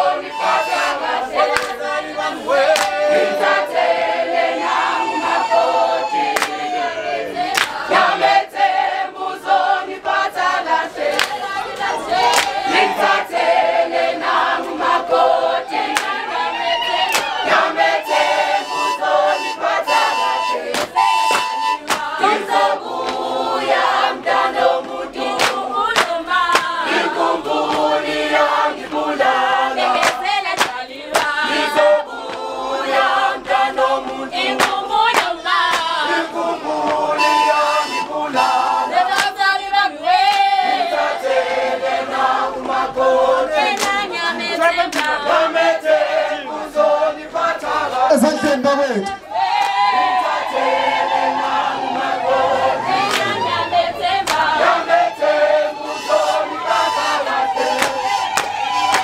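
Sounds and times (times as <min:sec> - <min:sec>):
group singing in chorus: 0:00.0 - 0:59.0.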